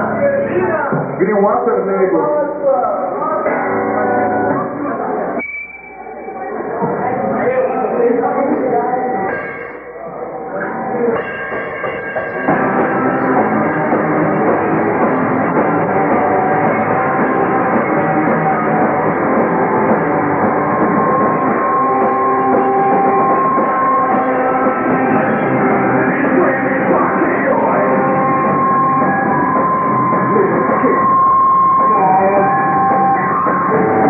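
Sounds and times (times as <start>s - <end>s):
live rock band playing: 2.5s - 34.0s
steady high note: 5.4s - 34.0s.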